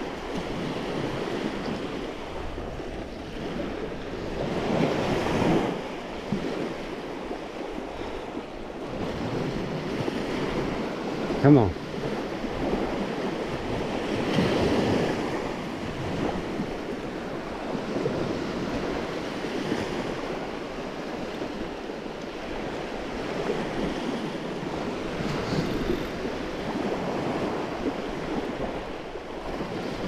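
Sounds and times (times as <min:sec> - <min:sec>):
small waves breaking on beach: 0:00.0 - 0:30.0
wind buffeting microphone: 0:00.0 - 0:30.0.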